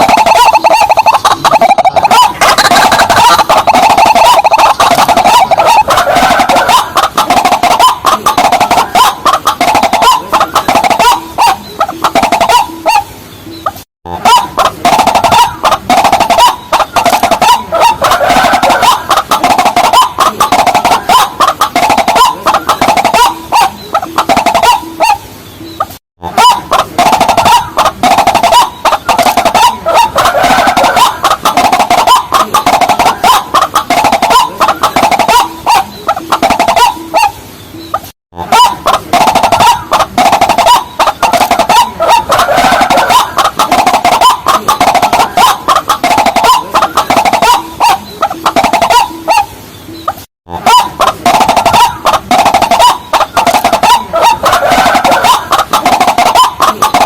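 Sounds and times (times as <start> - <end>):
waterhen harsh calls: 0.0 - 57.0.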